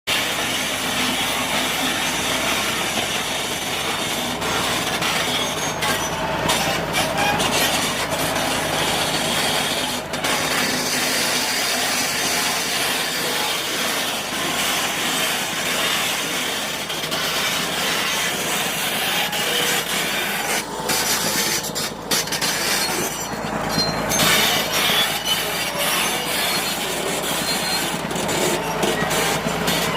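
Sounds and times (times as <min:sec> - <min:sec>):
bulldozer diesel engine running: 0:00.1 - 0:29.9
steel tracks moving: 0:00.1 - 0:29.9.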